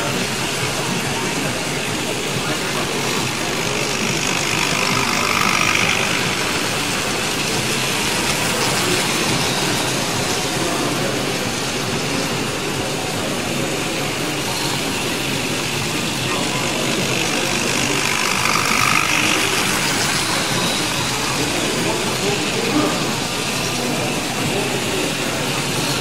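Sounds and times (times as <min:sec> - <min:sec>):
busy hall background noise: 0:00.0 - 0:26.0
model train running: 0:00.0 - 0:26.0.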